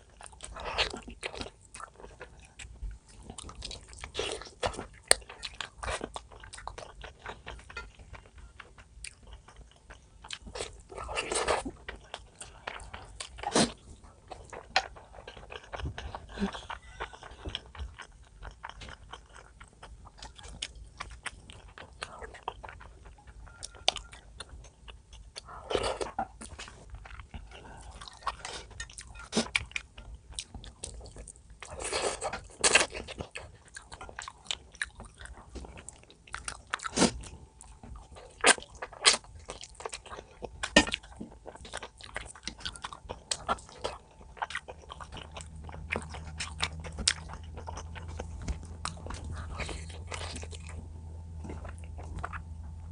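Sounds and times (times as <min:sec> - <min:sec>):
chewing and crunching: 0:00.0 - 0:52.9.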